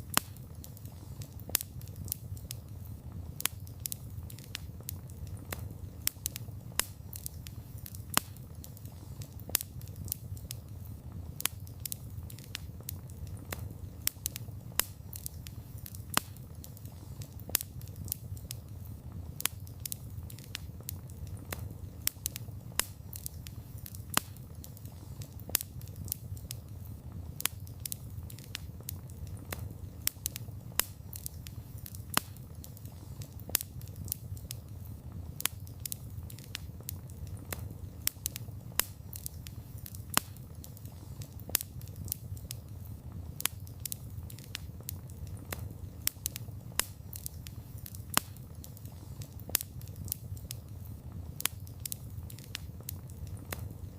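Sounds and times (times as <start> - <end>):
campfire crackling and popping: 0.0 - 53.9
low rumble of flames: 0.0 - 53.9.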